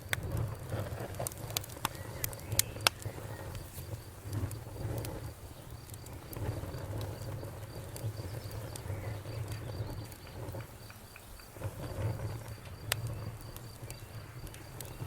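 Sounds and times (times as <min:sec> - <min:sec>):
campfire crackling and popping: 0:00.0 - 0:15.0
insect chirping: 0:01.7 - 0:15.0.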